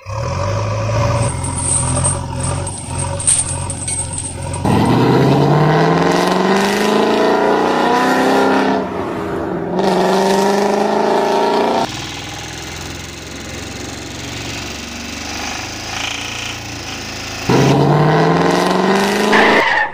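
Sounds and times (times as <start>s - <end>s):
car engine revving: 0.0s - 19.7s.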